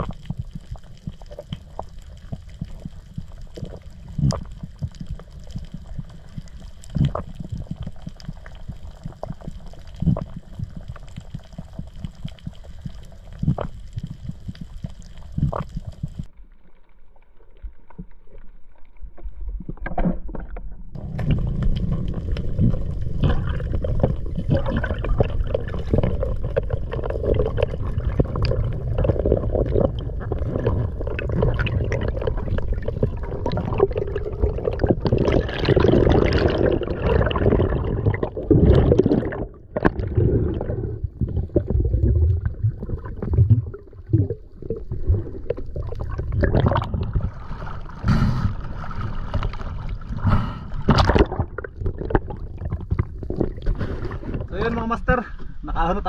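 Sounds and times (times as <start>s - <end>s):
water sloshing and gurgling underwater: 0.0s - 56.0s.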